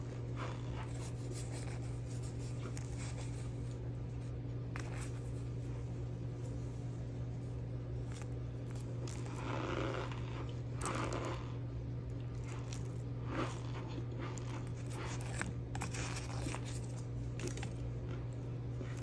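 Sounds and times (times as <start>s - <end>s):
soft crunches and crackles: 0.0s - 19.0s
steady low hum: 0.0s - 19.0s.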